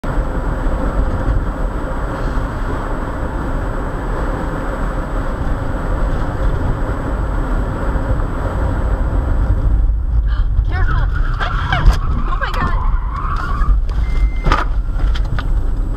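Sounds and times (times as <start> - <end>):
car tyres and engine rumble: 0.0 - 15.9.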